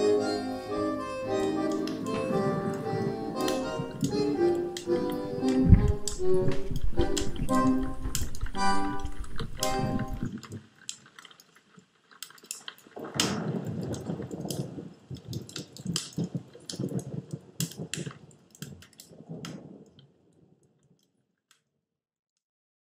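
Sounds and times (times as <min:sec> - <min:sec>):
low rush of flames: 0:00.0 - 0:11.5, 0:12.1 - 0:20.0
wood fire crackling and popping: 0:00.0 - 0:21.6.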